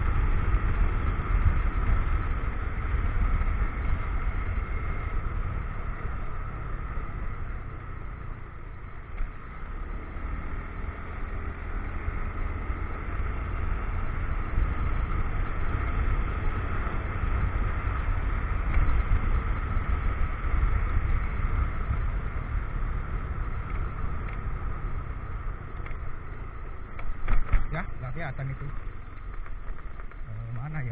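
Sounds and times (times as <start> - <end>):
motorcycle engine running: 0.0 - 30.9
road noise: 0.0 - 30.9.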